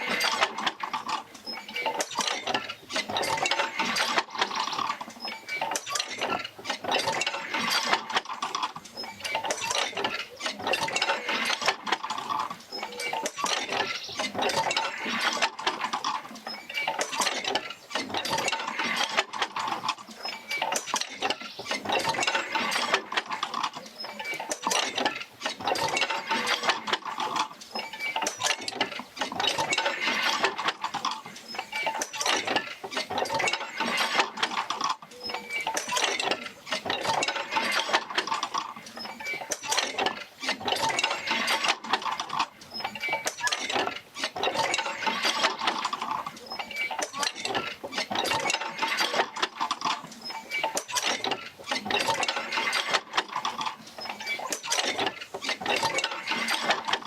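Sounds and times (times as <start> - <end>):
creaking clanking wheel: 0.0 - 57.0.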